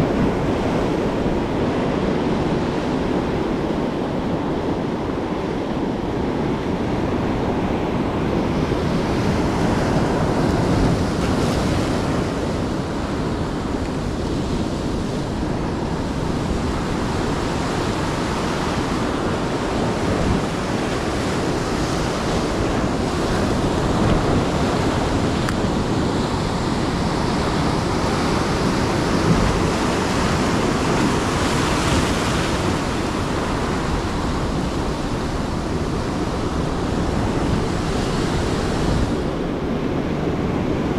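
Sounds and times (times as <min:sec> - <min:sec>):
ocean surf washing ashore: 0:00.0 - 0:40.9
wind on microphone: 0:00.0 - 0:40.9.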